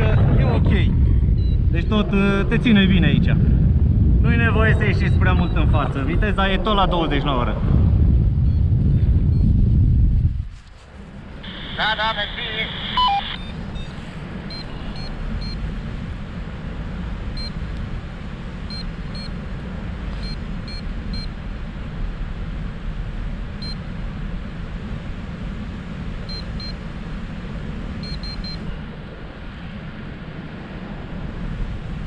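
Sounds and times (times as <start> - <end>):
wind on microphone: 0.0 - 11.7, 12.8 - 32.0.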